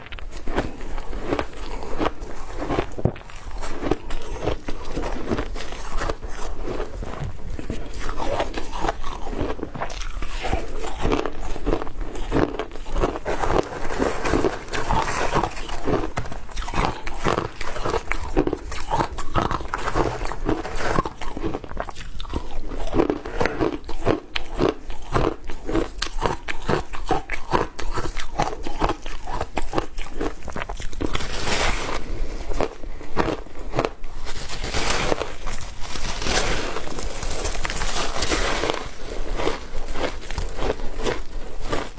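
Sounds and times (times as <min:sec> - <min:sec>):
crunching and chewing ice: 0:00.0 - 0:41.9.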